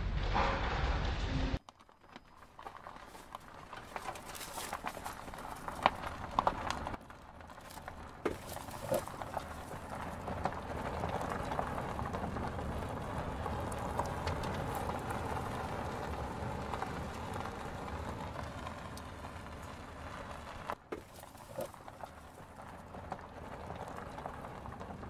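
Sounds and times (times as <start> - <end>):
tyres rolling on ribbed road: 0.0 - 25.0.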